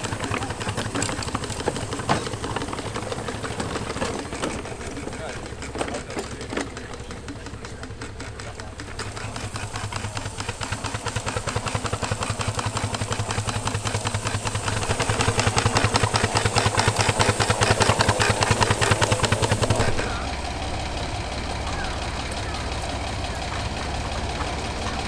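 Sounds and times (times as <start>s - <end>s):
steam engine exhaust chuffing: 0.0s - 25.0s.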